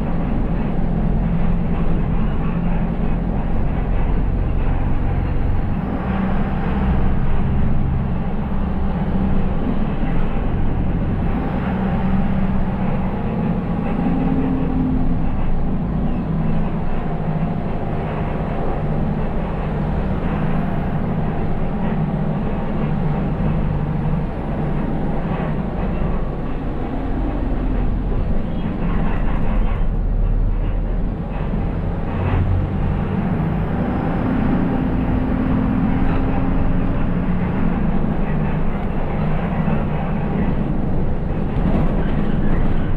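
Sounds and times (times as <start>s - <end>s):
bus engine rumble: 0.0s - 42.9s
road and tyre noise: 0.0s - 42.9s.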